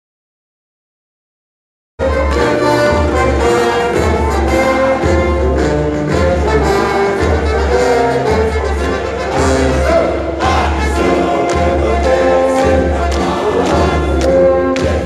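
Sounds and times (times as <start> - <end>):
band music with brass and bass: 2.0 - 15.0.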